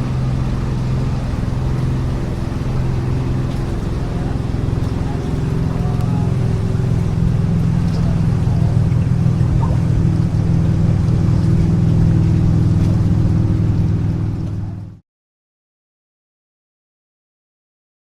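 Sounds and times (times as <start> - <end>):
motorboat engine droning: 0.0 - 15.0.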